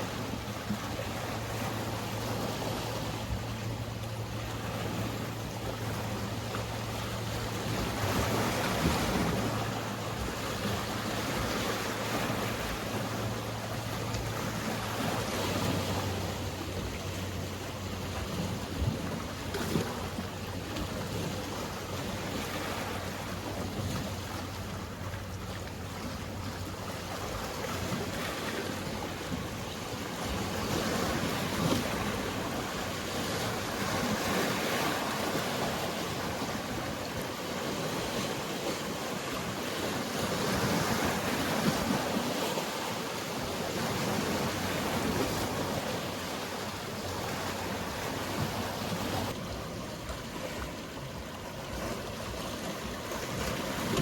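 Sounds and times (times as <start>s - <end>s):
sea waves washing in: 0.0s - 54.0s
wind on microphone: 0.0s - 54.0s.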